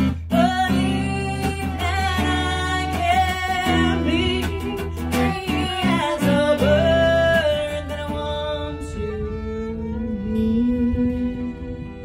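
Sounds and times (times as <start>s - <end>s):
strummed acoustic guitar: 0.0s - 12.0s
woman singing: 0.0s - 12.0s
violin playing: 0.8s - 12.0s.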